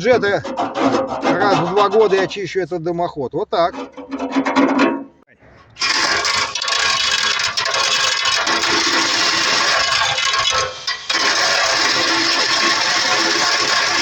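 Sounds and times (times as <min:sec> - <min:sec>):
spinning brush scraping metal: 0:00.0 - 0:02.4, 0:03.7 - 0:14.0.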